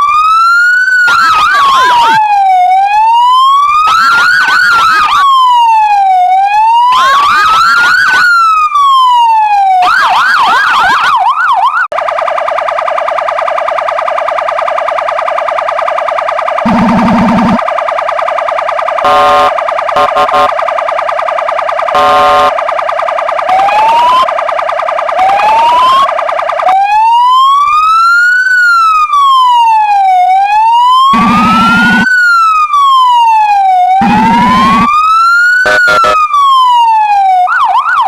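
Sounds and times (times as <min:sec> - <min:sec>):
rapidly pulsing siren tone: 0:00.0 - 0:38.0
siren wailing: 0:00.0 - 0:38.0
siren yelping: 0:00.0 - 0:38.0.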